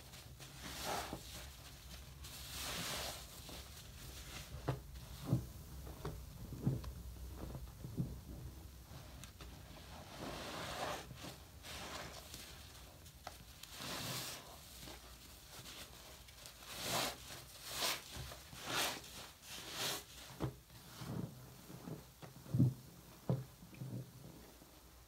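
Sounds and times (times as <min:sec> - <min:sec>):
sponge squishing in foam: 0:00.0 - 0:22.8
crackling foam hiss: 0:00.0 - 0:25.0.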